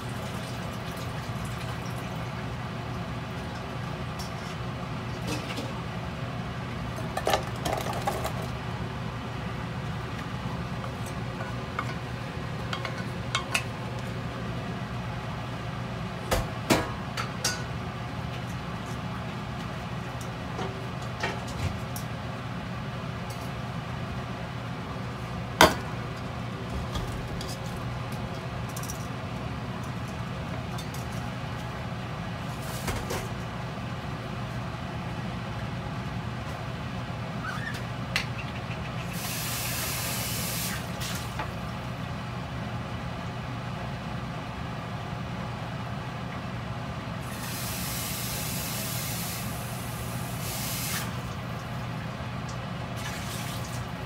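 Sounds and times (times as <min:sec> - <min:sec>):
low kitchen hum: 0:00.0 - 0:54.0.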